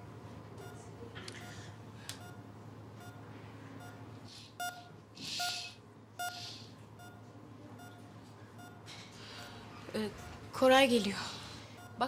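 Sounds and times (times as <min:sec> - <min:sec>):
patient monitor beeping: 0:00.6 - 0:03.2, 0:03.8 - 0:04.0, 0:04.6 - 0:05.6, 0:06.2 - 0:12.0.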